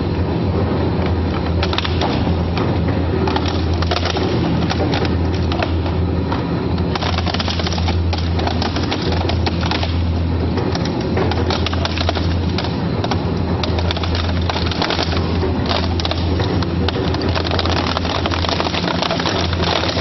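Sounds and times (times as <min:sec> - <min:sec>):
shredder motor hum: 0:00.9 - 0:20.0
plastic cracking and snapping: 0:01.5 - 0:20.0.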